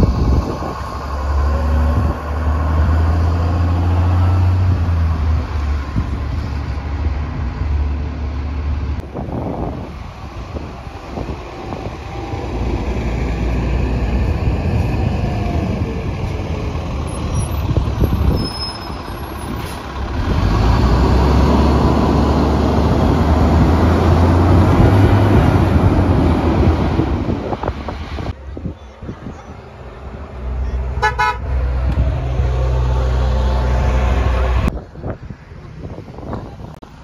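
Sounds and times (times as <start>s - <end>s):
bus engine accelerating: 0.0s - 37.0s.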